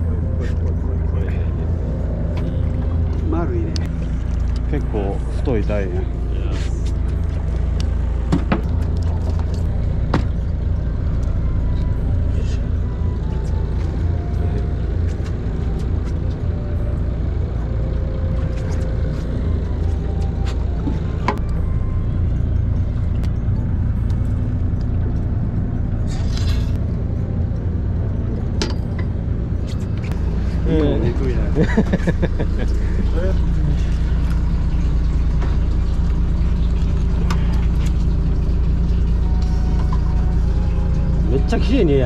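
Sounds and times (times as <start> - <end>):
boat engine rumbling: 0.0 - 42.0.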